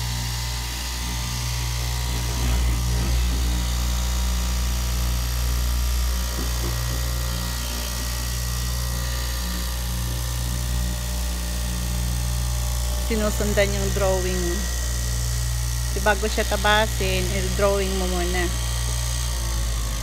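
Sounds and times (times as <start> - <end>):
cloth cutting machine humming: 0.0 - 20.0.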